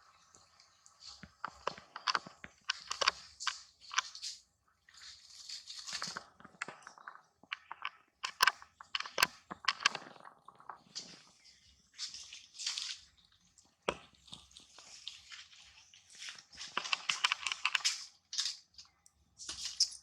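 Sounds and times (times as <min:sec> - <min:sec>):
crunching and crackling clicks: 0:00.8 - 0:04.4, 0:05.1 - 0:11.4, 0:12.6 - 0:20.0.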